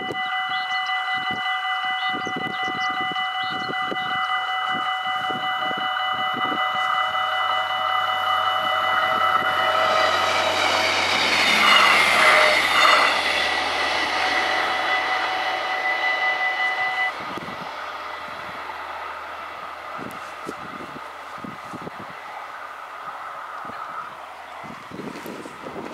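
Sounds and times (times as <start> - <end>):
diesel train passing: 0.0 - 25.9
level-crossing warning bells: 0.0 - 25.9.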